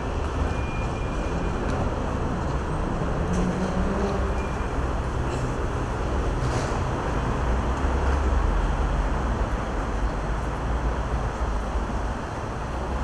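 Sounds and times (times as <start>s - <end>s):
station background noise: 0.0s - 13.0s.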